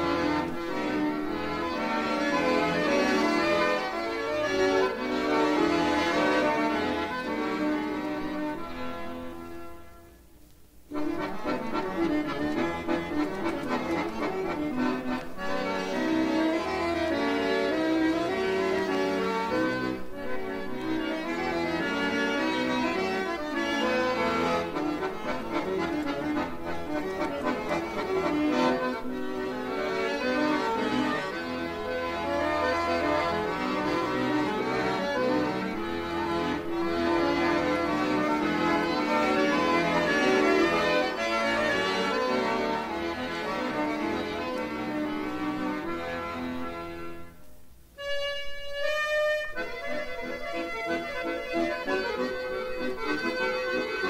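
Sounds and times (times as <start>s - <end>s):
accordion playing lively piece: 0.0s - 10.2s, 10.8s - 54.0s.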